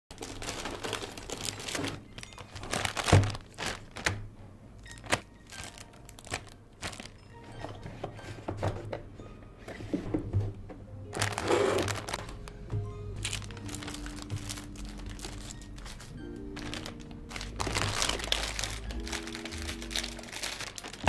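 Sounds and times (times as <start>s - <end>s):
plastic bags crinkling: 0.1s - 7.6s, 11.1s - 21.0s.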